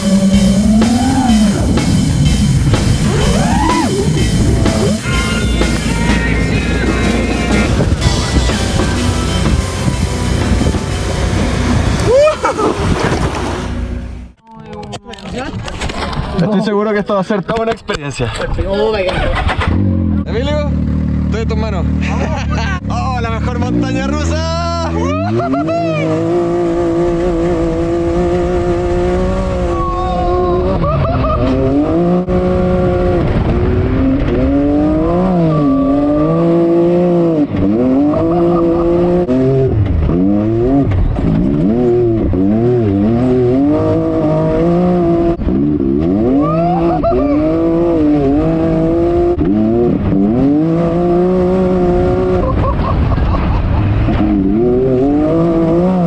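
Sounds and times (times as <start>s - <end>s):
engine revving: 0.0s - 14.4s, 19.0s - 56.0s.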